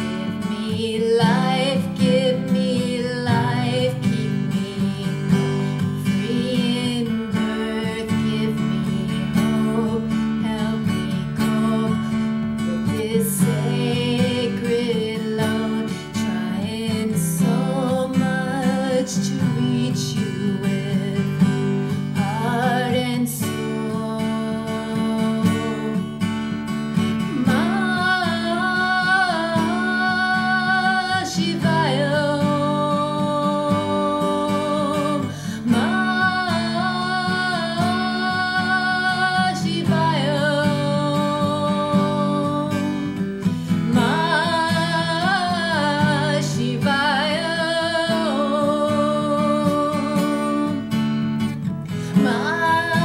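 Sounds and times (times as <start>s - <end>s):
person singing: 0.0s - 26.2s, 27.2s - 51.0s, 51.9s - 53.0s
acoustic guitar: 0.0s - 53.0s.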